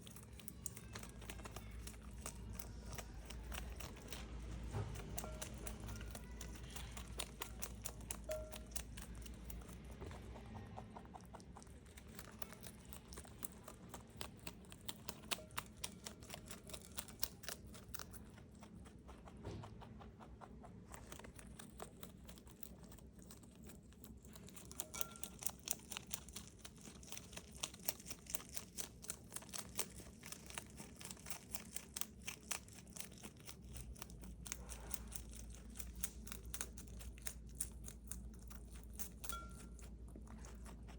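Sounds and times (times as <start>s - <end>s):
rabbit chewing crunchy leaves: 0.0s - 40.9s.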